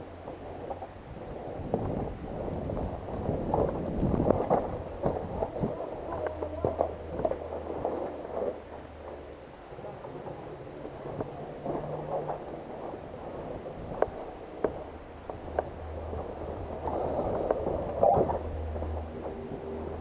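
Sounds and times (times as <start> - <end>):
steady low rumble: 0.0 - 20.0
rustling camera and gear: 0.1 - 20.0.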